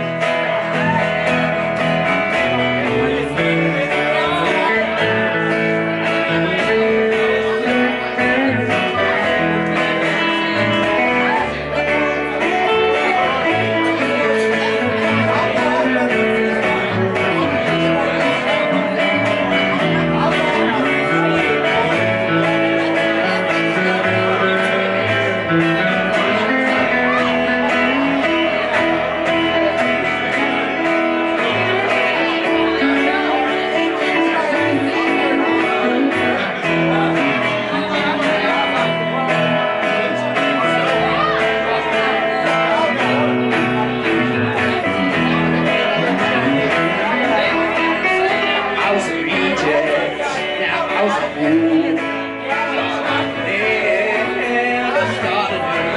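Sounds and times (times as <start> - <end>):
electric guitar: 0.0 - 55.9
plucked upright bass: 0.0 - 55.9
strummed acoustic guitar: 0.0 - 55.9.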